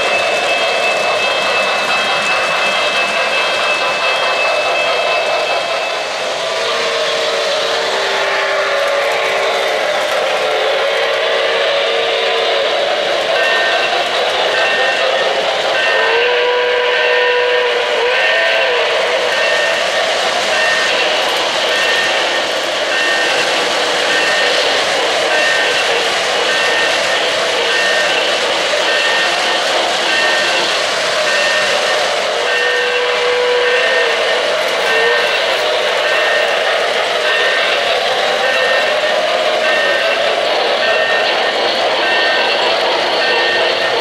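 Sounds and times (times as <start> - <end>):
model train wheels rumbling: 0.0 - 44.0
steam whistle: 4.3 - 44.0.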